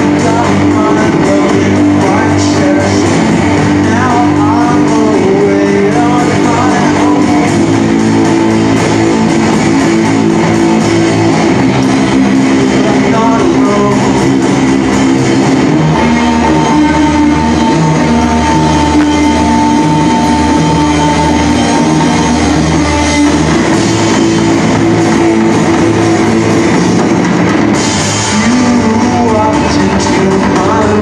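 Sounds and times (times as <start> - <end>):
high held guitar note: 0.0 - 31.0
rock band playing live: 0.0 - 31.0.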